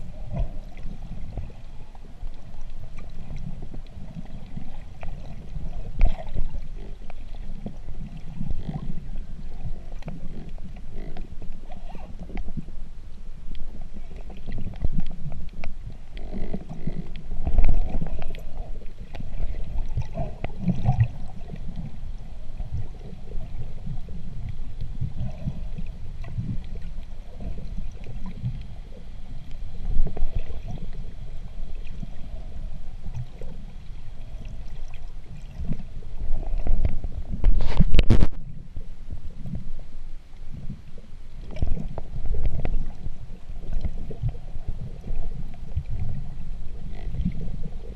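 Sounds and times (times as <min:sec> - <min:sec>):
muffled underwater water rumble: 0:00.0 - 0:47.9.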